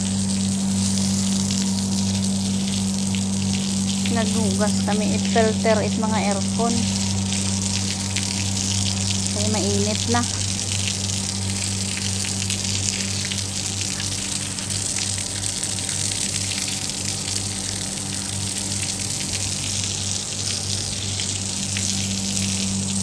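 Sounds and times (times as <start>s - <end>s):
steady low hum: 0.0s - 23.0s
water running and splashing: 0.0s - 23.0s.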